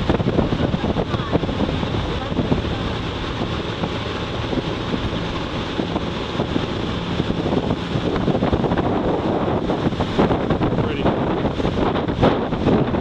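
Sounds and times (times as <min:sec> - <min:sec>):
boat motor droning: 0:00.0 - 0:13.0
water rushing past hull: 0:00.0 - 0:13.0
wind buffeting microphone: 0:00.0 - 0:13.0.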